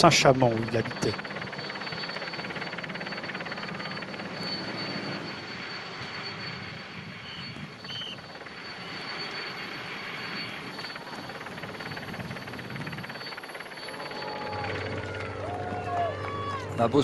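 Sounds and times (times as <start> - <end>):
helicopter rotor chop: 0.0 - 17.0.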